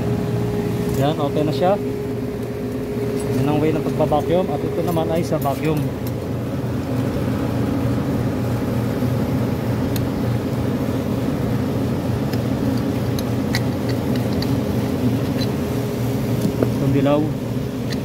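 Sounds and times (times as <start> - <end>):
vacuum pump droning: 0.0 - 18.0.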